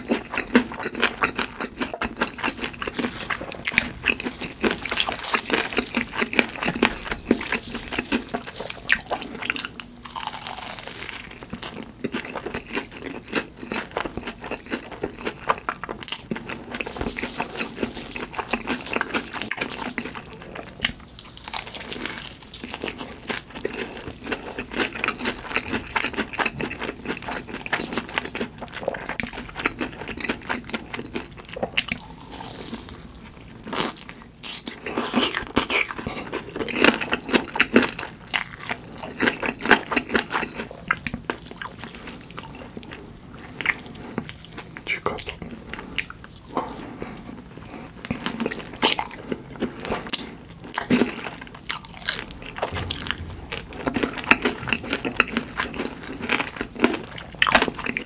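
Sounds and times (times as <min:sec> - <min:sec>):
crunchy chewing of fried food: 0:00.0 - 0:58.0.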